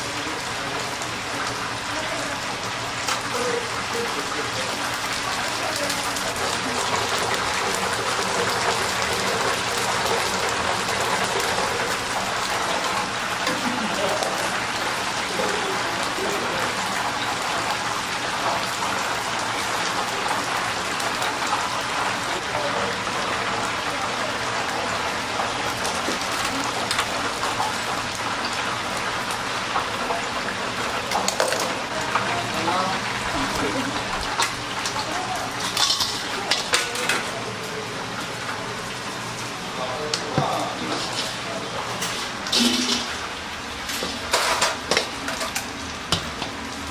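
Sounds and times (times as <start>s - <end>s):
oil sizzling in deep fryer: 0.0s - 46.9s.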